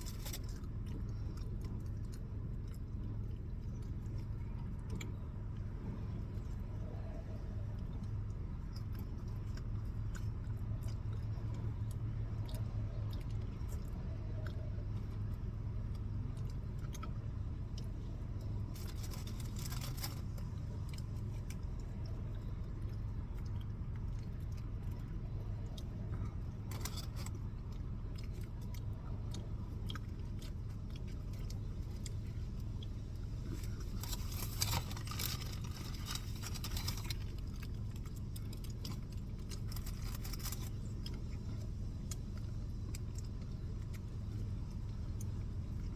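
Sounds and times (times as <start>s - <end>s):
rustling or crunching: 0.0s - 45.7s
person chewing: 0.0s - 45.9s
steady low hum: 0.0s - 45.9s.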